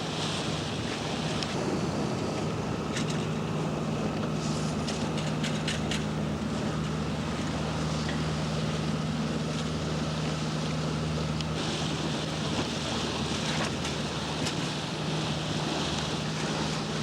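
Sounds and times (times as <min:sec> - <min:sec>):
boat engine humming: 0:00.0 - 0:17.0
wind and water hiss: 0:00.0 - 0:17.0.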